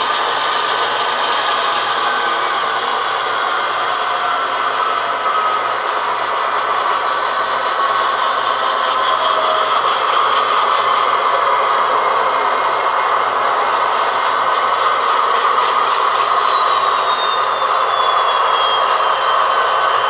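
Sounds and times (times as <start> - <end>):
model train diesel engine sound: 0.0 - 20.0
thin high whine: 0.0 - 20.0.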